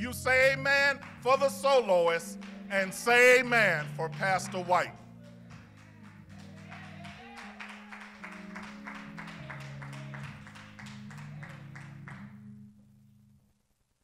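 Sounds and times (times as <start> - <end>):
soft keyboard chords: 0.0 - 13.4.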